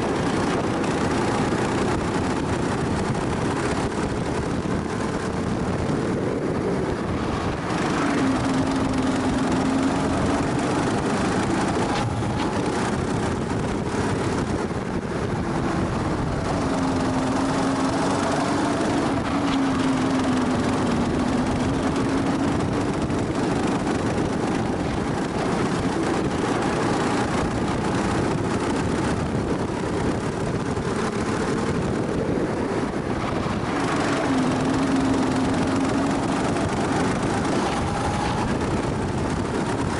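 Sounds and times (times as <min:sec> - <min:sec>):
constant rushing noise: 0:00.0 - 0:39.9
kart engine revving: 0:00.0 - 0:39.9.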